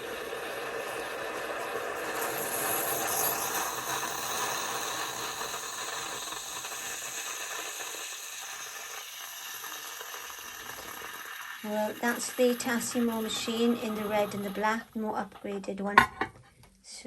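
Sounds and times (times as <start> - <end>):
hiss of hot water and steam: 0.0 - 14.9
pod machine pump running: 0.0 - 15.4.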